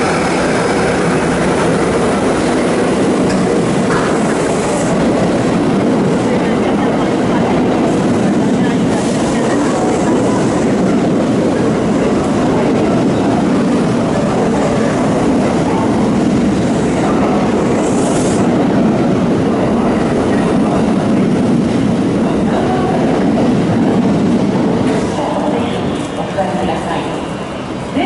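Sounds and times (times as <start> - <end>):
train wheels on rails echoing: 0.0 - 28.0.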